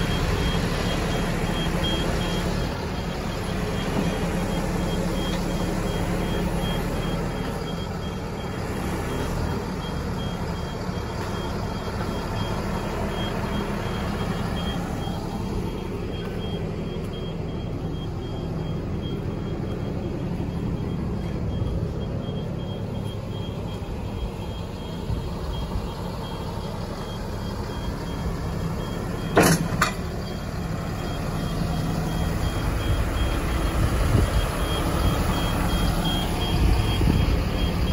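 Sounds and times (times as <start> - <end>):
high-pitched warning beeper: 0.0 - 37.9
truck diesel engine running: 0.0 - 37.9.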